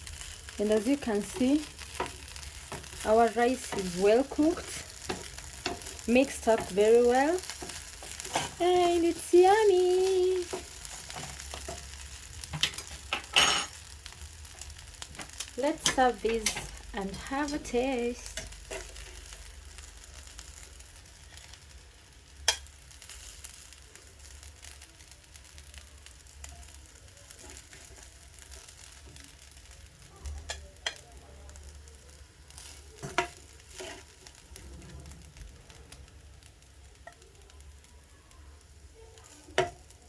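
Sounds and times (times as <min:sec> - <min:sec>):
faint steady sizzle: 0:00.0 - 0:40.0.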